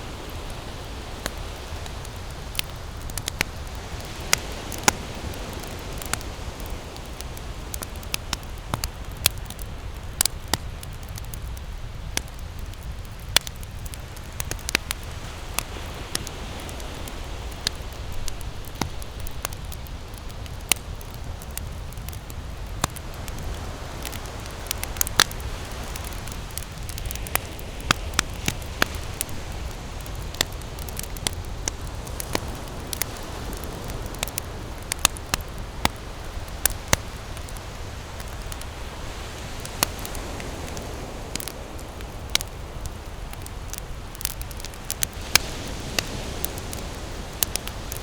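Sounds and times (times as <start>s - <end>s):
campfire crackling and popping: 0.0s - 48.0s
steady low rush of fire: 0.0s - 48.0s.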